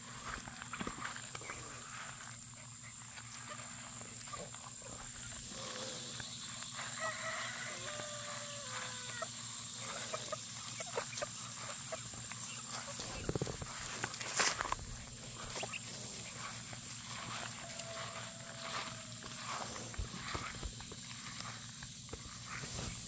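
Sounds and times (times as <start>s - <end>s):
rustling in grass: 0.0s - 23.0s.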